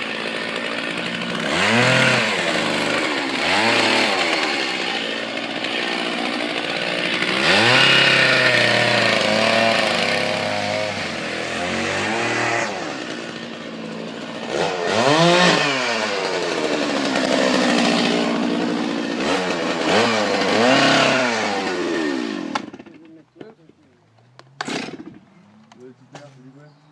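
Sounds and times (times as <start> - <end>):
chainsaw running hard: 0.0 - 23.2, 24.6 - 25.3.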